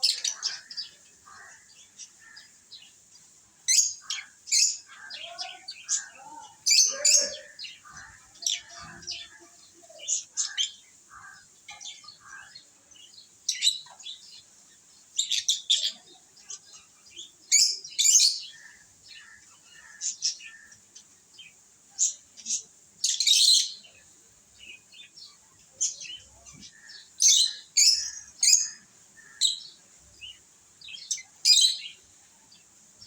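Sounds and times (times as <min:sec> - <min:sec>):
lovebirds chirping: 0:00.0 - 0:33.0.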